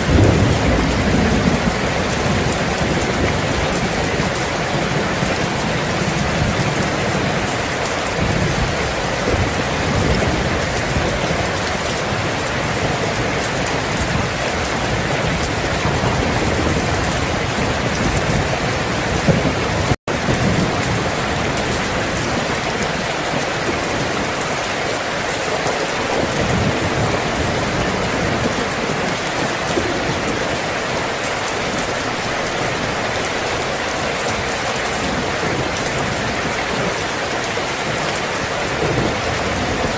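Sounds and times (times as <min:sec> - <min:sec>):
distant thunder rumbles: 0:00.0 - 0:39.9
heavy rain hissing: 0:00.0 - 0:39.9.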